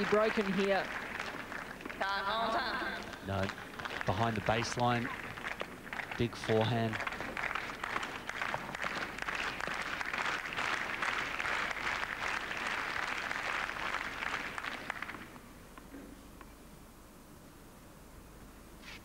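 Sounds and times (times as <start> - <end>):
crowd applauding: 0.0 - 15.4.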